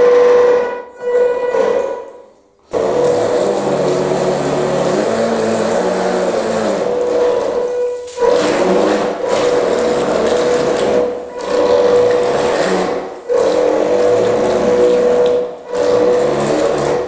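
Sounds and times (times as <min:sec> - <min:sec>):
electric boat motors whining: 0:00.0 - 0:02.1, 0:02.7 - 0:17.0.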